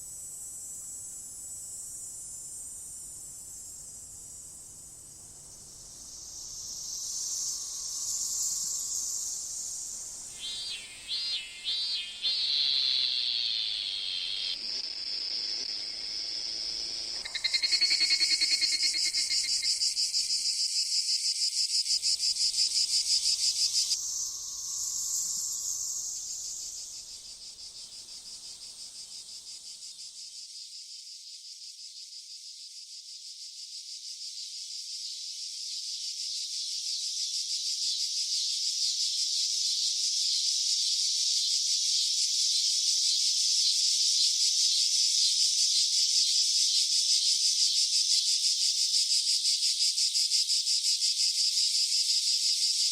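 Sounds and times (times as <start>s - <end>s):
cicadas buzzing: 0.0s - 30.7s, 31.4s - 52.9s.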